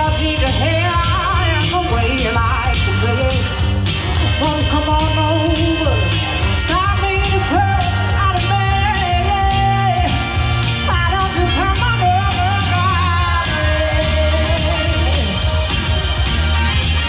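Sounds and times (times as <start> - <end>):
woman singing into microphone: 0.0 - 15.5
backing music: 0.0 - 17.0.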